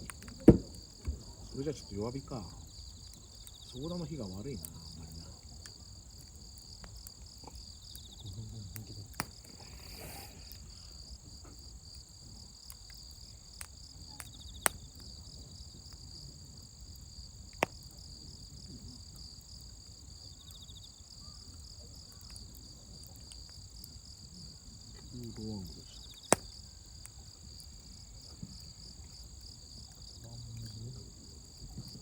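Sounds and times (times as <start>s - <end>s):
insects chirping: 0.0s - 32.0s
wood fire crackling and popping: 0.0s - 32.0s.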